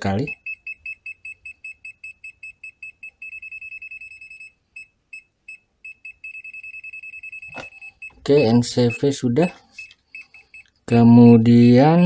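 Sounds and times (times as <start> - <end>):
high-pitched detector beeps: 0.0 - 12.0.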